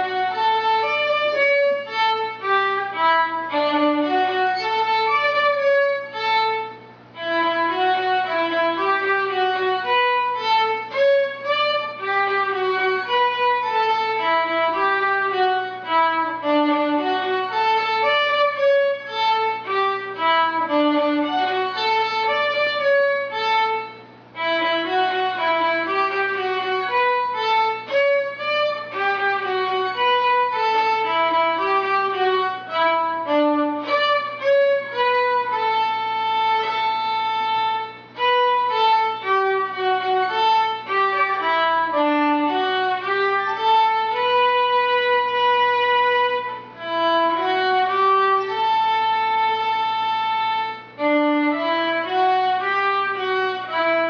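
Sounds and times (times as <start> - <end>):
solo violin melody: 0.0 - 54.0.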